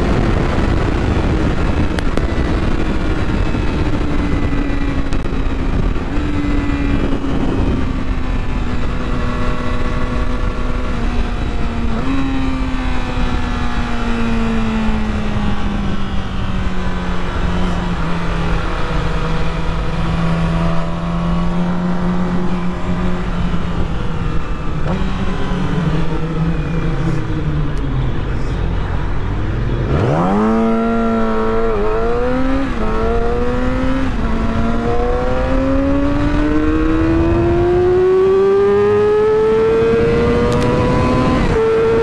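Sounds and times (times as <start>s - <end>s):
heavy wind rush: 0.0s - 42.0s
motorcycle engine revving high: 0.0s - 42.0s.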